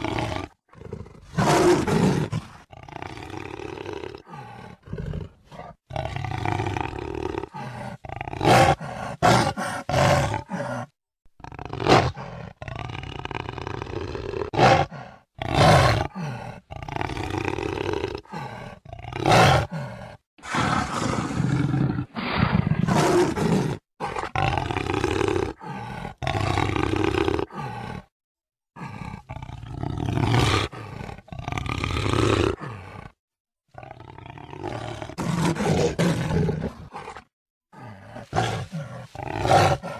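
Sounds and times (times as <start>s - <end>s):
jaguar roaring and grunting: 0.0s - 28.1s, 28.8s - 33.2s, 33.8s - 39.9s.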